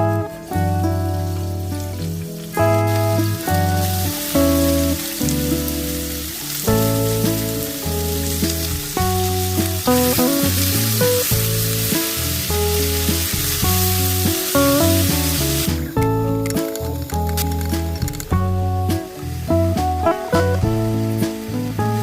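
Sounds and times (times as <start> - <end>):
background music with bass: 0.0 - 22.0
food sizzling in frying pan: 0.0 - 22.0.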